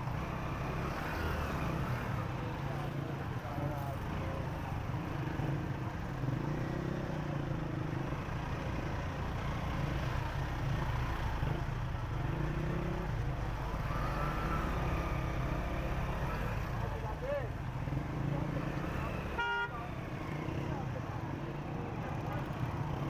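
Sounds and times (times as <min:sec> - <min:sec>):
motorcycle engine: 0:00.0 - 0:23.0
road traffic at crawling speed: 0:00.0 - 0:23.0.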